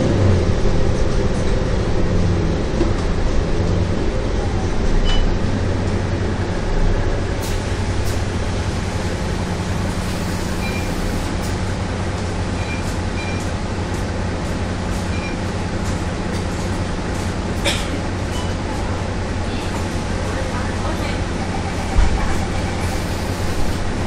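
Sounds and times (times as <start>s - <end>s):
bus cabin noise: 0.0s - 24.0s
bus diesel engine humming: 0.0s - 24.0s.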